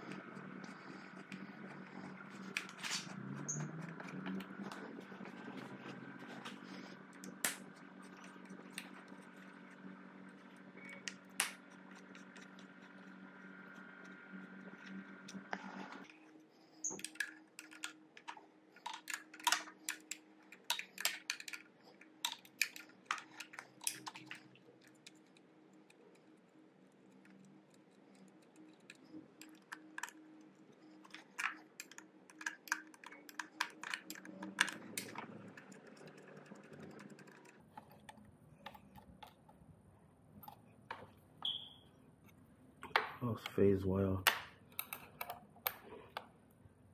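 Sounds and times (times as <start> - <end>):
faint low hum: 0.0 - 46.9.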